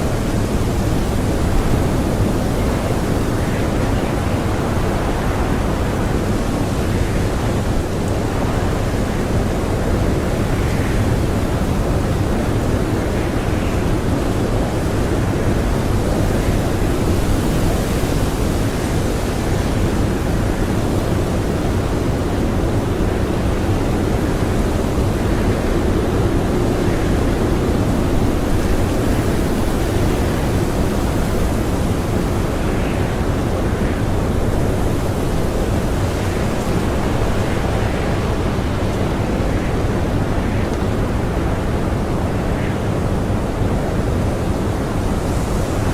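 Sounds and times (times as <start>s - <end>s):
blizzard wind blowing: 0.0s - 45.9s.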